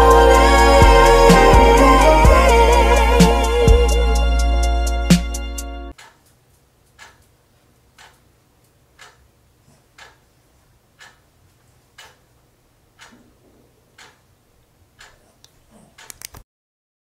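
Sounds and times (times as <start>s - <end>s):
wall clock ticking: 0.0s - 4.0s, 5.9s - 16.2s.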